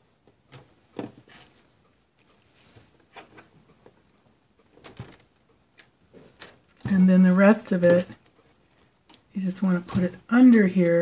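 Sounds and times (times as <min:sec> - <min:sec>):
fingers rustling and tapping: 0:00.2 - 0:11.0.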